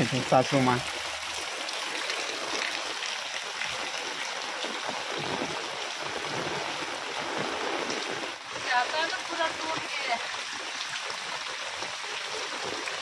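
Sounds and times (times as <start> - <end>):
heavy rain falling: 0.0 - 13.0
water streaming off roof: 0.0 - 13.0.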